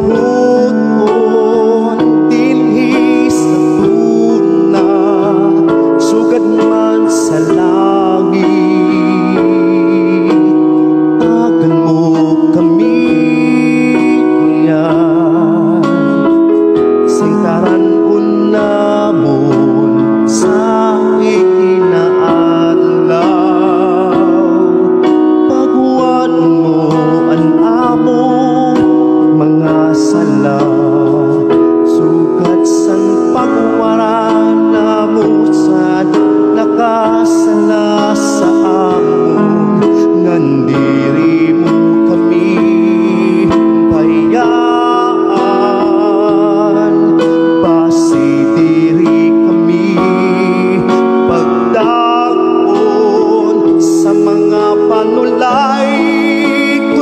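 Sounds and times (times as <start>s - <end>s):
person singing with vibrato: 0.0s - 57.0s.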